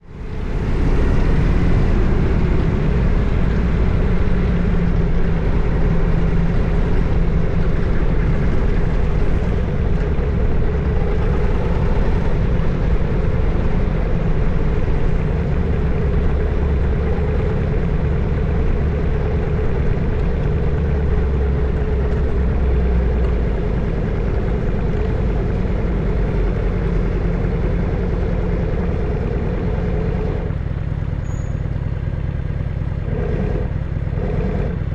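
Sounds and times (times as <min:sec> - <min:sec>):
motorcycle engine rumbling: 0:00.0 - 0:34.9.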